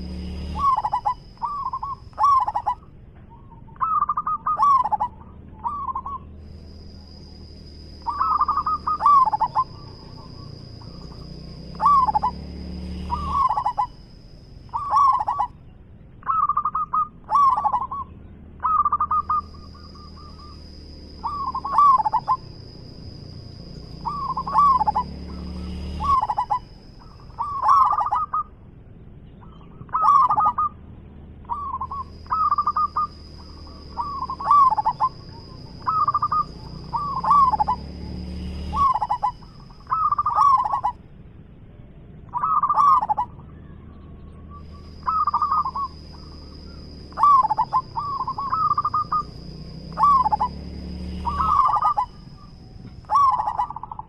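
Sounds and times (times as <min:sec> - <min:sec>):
dove cooing: 0:00.0 - 0:28.6, 0:29.4 - 0:30.8, 0:31.4 - 0:41.1, 0:42.2 - 0:54.0.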